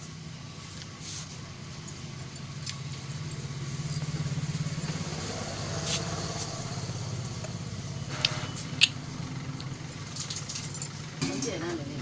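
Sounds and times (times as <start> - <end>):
pulsing mechanical hum: 0.0 - 12.0.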